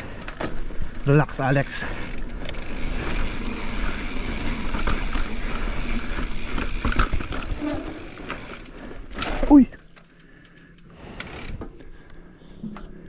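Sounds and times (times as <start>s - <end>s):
bike rattling and knocking: 0.0s - 10.5s
bike tyres crunching over dirt: 0.0s - 11.8s.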